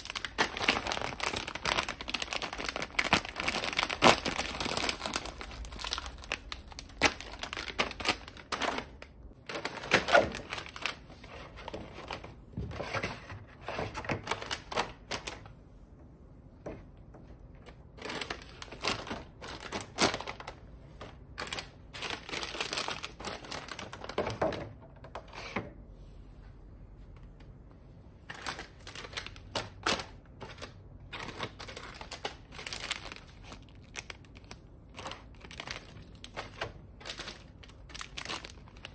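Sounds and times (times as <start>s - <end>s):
plastic wrappers crinkling: 0.0s - 12.4s, 13.8s - 15.5s, 17.6s - 24.8s, 28.2s - 38.9s.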